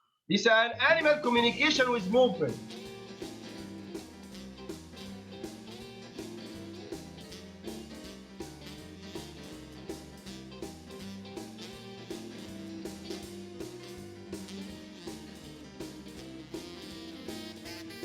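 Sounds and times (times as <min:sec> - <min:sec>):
plucked guitar: 0:00.8 - 0:18.0
steady beat: 0:00.8 - 0:18.0.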